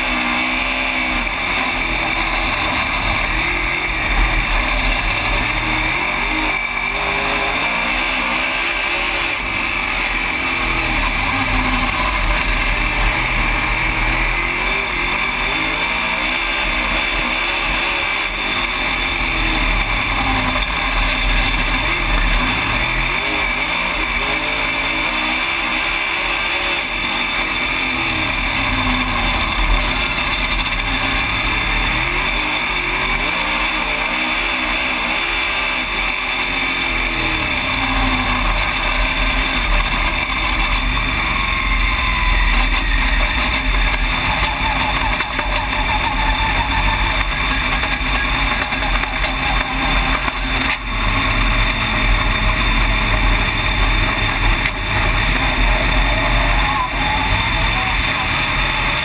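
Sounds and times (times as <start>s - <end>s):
race car engine revving: 0.0s - 59.0s
steady roar: 0.0s - 59.0s.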